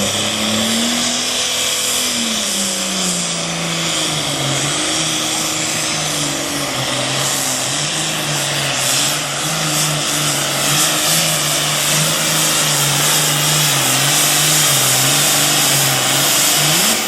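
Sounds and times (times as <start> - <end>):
heavy hiss: 0.0 - 17.0
tractor engine at high revs: 0.0 - 17.0.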